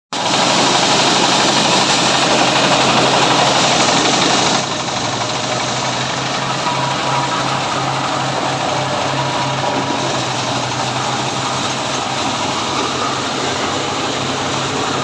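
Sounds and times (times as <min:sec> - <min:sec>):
diesel engine mechanical din: 0:00.2 - 0:15.0.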